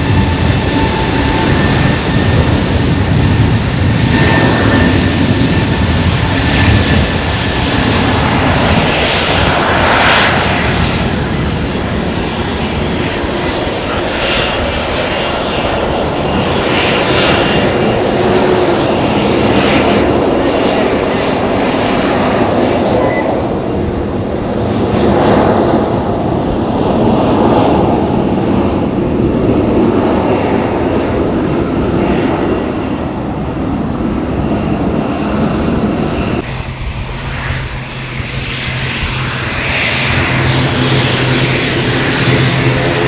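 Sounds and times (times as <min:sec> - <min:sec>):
aircraft engines running: 0:00.0 - 0:43.0.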